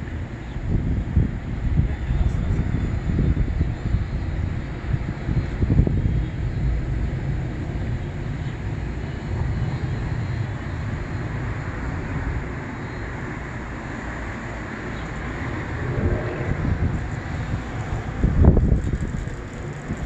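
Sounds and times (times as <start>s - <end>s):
city traffic rumble: 0.0s - 20.0s
wind buffeting microphone: 0.0s - 20.0s.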